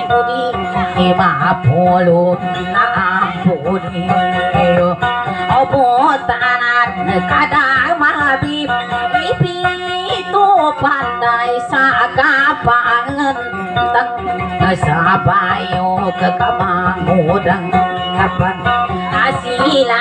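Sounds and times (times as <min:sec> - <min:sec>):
strummed acoustic guitar: 0:00.0 - 0:20.0
woman singing into a microphone: 0:00.0 - 0:20.0.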